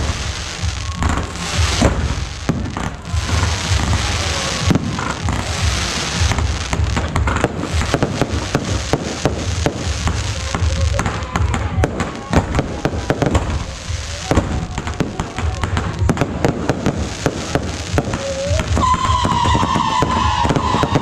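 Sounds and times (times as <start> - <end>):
fireworks crackling: 0.0 - 21.0
sharp fireworks bangs: 0.0 - 21.0.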